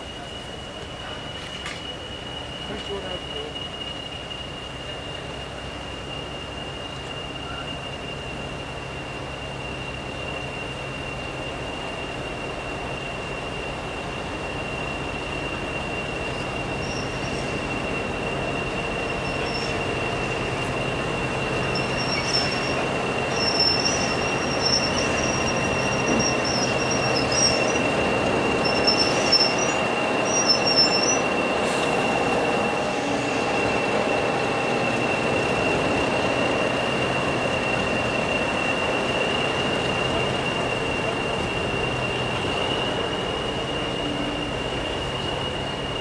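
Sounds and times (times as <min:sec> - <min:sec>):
diesel locomotive engine whistling: 0:00.0 - 0:46.0
wheel or brake squeals: 0:00.1 - 0:46.0.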